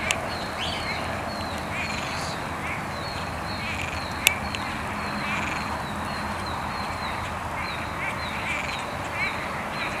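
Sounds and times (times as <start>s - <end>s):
frogs chirping: 0.0s - 10.0s.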